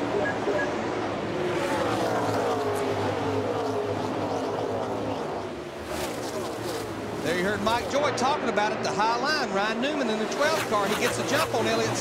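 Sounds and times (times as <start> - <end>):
race cars passing at full throttle: 0.0 - 12.0.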